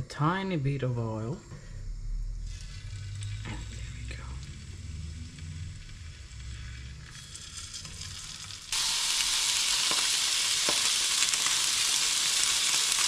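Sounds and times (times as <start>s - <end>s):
fish fillets sizzling in a pan: 2.4s - 13.0s.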